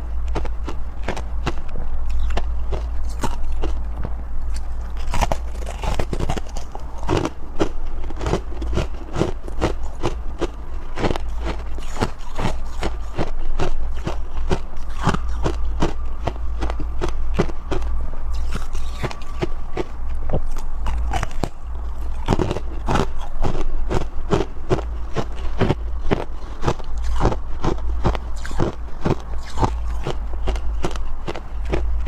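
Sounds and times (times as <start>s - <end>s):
chewing crunchy ice: 0.0s - 32.0s
low hum: 0.0s - 32.0s.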